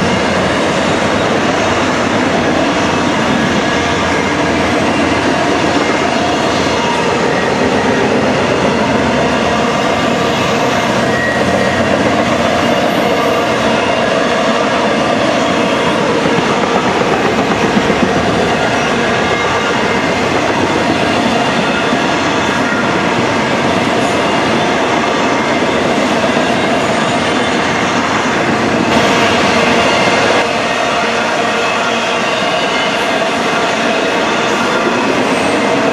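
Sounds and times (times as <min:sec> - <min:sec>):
freight train wheels clattering on rails: 0:00.0 - 0:35.9.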